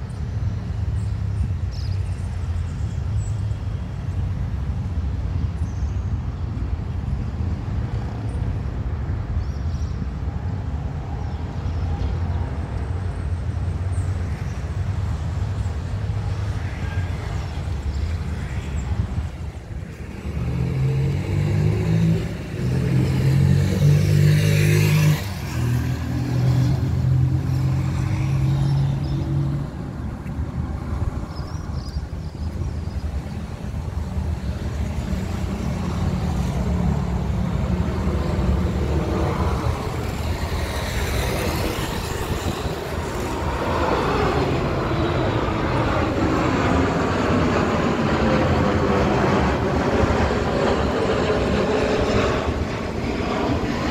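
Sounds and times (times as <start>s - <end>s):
jet plane approaching overhead: 0.0s - 53.9s.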